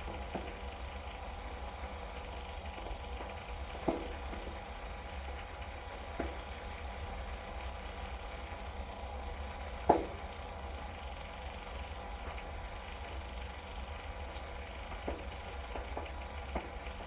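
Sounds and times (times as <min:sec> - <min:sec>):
water heater hum and hiss: 0:00.0 - 0:17.0.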